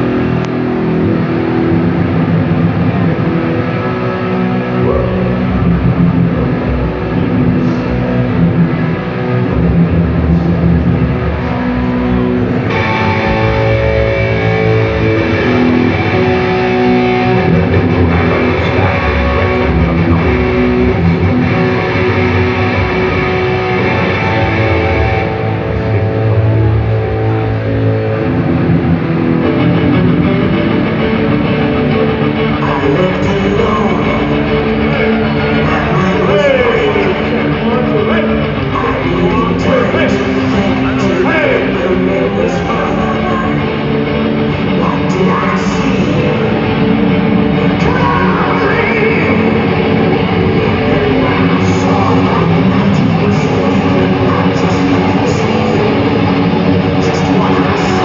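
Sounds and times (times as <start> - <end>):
bass guitar riffs: 0.0 - 58.0
distorted electric guitars: 0.0 - 58.0.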